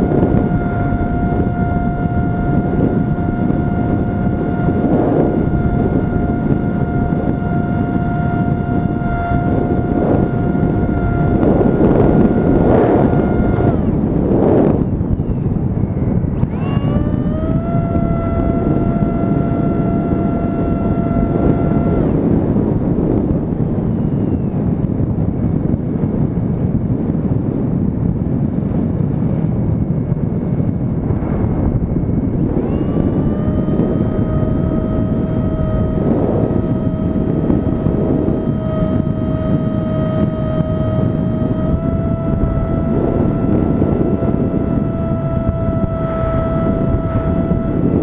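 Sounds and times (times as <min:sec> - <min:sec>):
model plane motor whine: 0:00.0 - 0:28.4, 0:29.3 - 0:48.0
wind rushing over microphone: 0:00.0 - 0:48.0.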